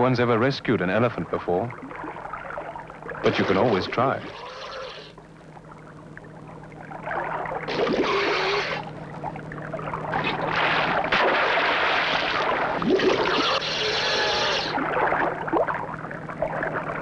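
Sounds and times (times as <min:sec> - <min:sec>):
faint steady low hum: 0:00.0 - 0:17.0
water splashing and churning: 0:00.8 - 0:17.0.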